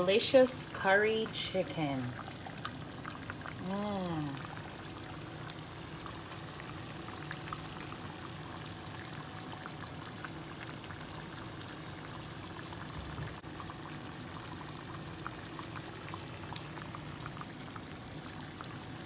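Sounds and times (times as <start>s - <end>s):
curry bubbling and popping: 0.0s - 19.0s
low steady hum: 0.0s - 19.0s.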